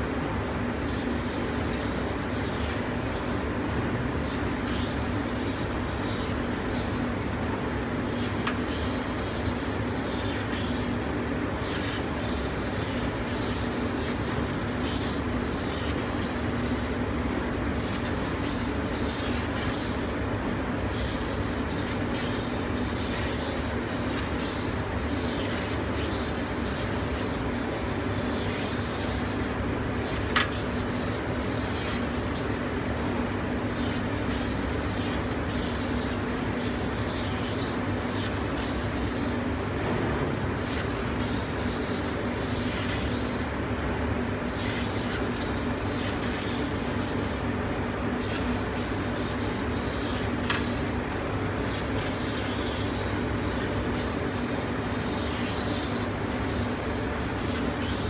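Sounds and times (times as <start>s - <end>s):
laser cutting machine humming: 0.0s - 58.0s.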